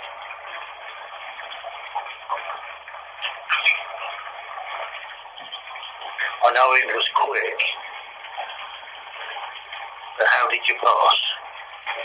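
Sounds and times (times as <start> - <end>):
water running into a bath: 0.0 - 12.0.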